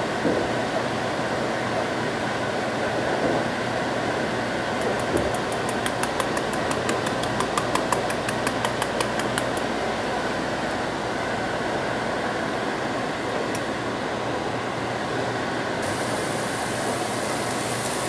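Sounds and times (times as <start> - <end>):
fan-like hum: 0.0 - 18.0.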